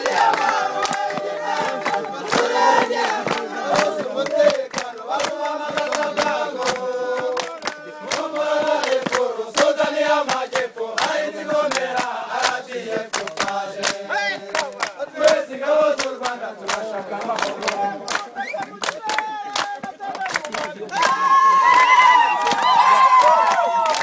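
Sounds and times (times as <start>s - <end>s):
men chanting together: 0.0s - 21.2s
hand claps: 0.0s - 24.0s.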